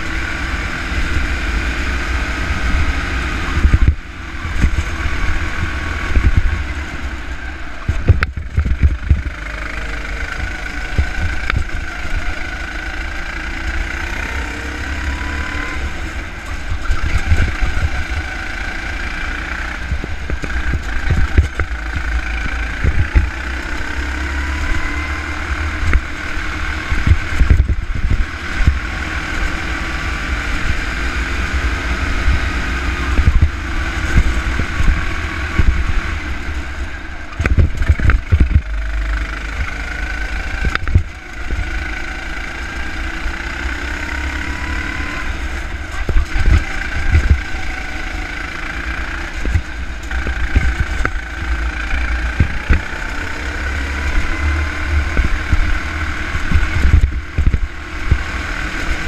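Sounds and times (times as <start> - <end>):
go-kart engine revving: 0.0 - 59.0
wind rumble on microphone: 0.0 - 59.0.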